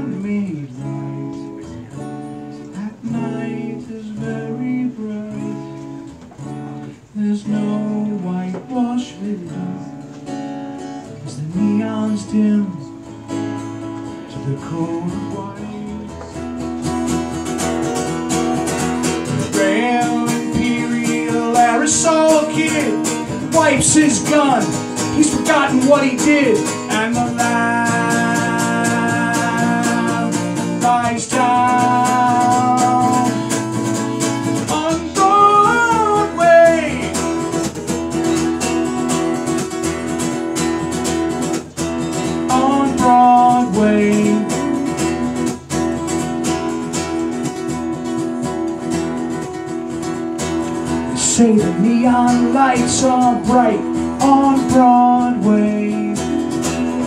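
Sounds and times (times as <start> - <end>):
solo acoustic guitar: 0.0 - 57.0.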